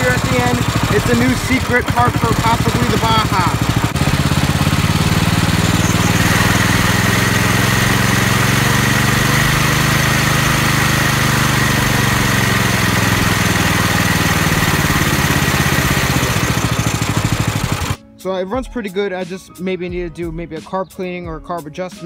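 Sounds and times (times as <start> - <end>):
small engine running: 0.0 - 18.0
steady high whine: 0.0 - 18.0.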